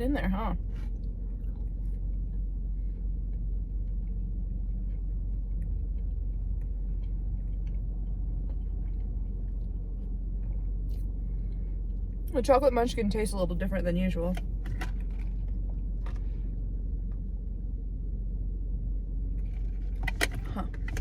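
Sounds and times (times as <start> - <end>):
car idling rumble: 0.0 - 21.0.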